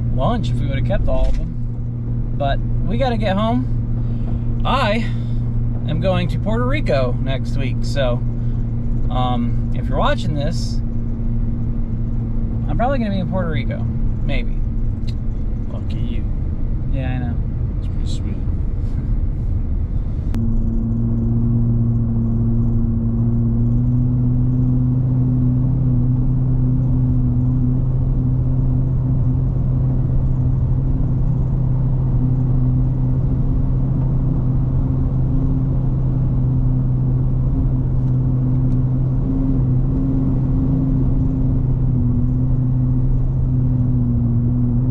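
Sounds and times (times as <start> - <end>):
car engine and road noise: 0.0 - 44.9.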